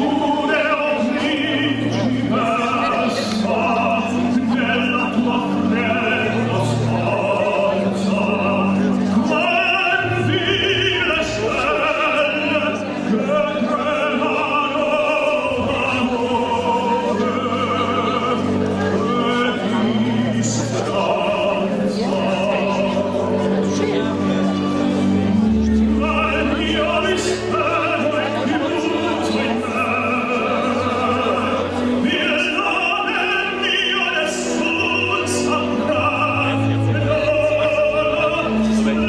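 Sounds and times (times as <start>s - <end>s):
operatic singing: 0.0s - 39.0s
orchestral accompaniment: 0.0s - 39.0s.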